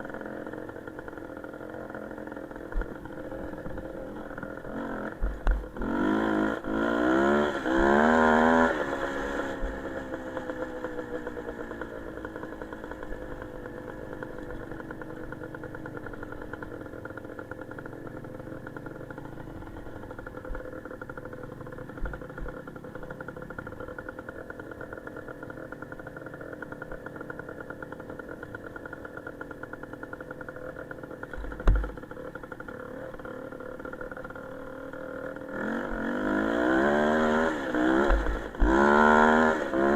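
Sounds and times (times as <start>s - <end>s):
small motorcycle engine revving: 0.0s - 39.9s.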